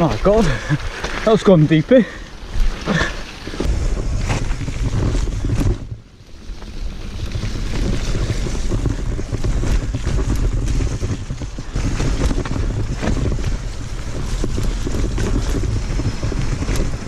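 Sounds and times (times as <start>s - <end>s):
bike rattling: 0.0s - 17.0s
tyres rumbling on trail: 0.0s - 17.0s
wind buffeting microphone: 0.0s - 17.0s.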